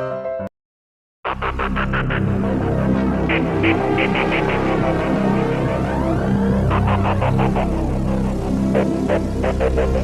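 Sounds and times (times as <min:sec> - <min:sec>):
electronic music with low drone: 0:01.3 - 0:10.0.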